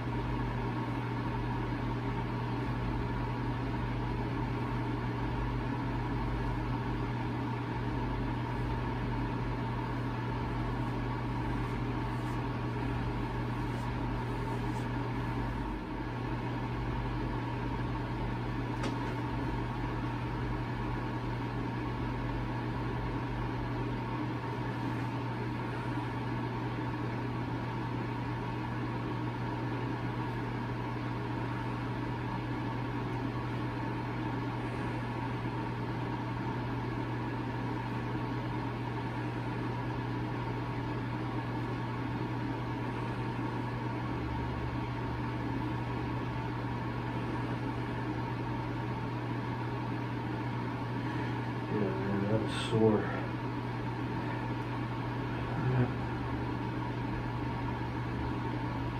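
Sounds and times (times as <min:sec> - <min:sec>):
machine hum: 0:00.0 - 0:58.9.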